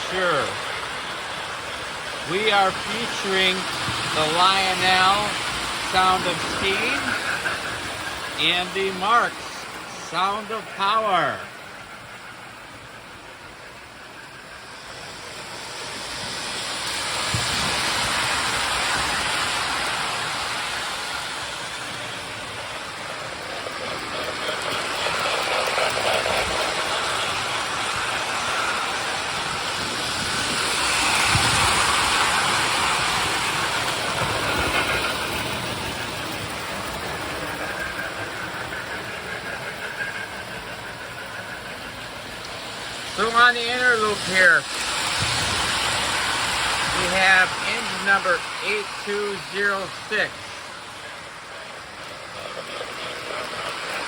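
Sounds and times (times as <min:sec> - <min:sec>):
steam chuff hissing: 0:00.0 - 0:54.0
toy train wheels rumbling on track: 0:00.0 - 0:54.0.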